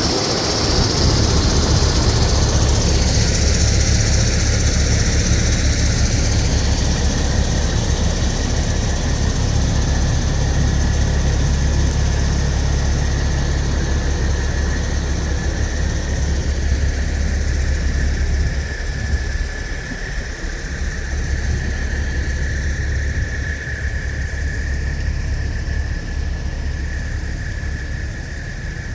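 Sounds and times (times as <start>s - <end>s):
diesel truck engine rumbling: 0.0s - 28.9s.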